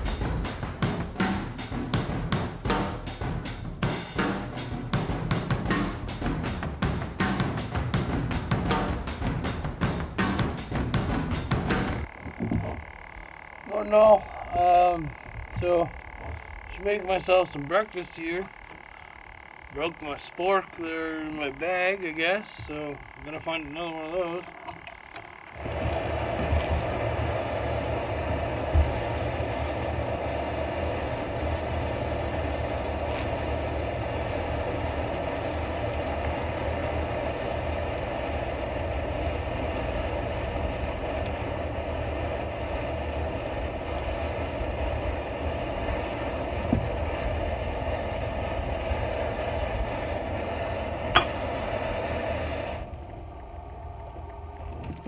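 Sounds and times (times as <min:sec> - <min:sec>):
camp stove burner running: 0:00.0 - 0:55.0.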